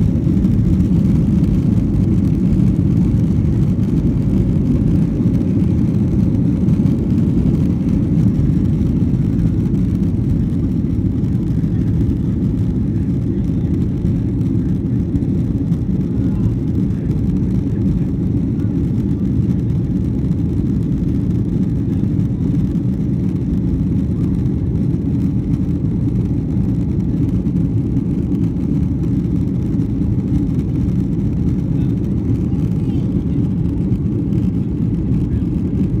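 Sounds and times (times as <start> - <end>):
jet engine roar in cabin: 0.0 - 36.0.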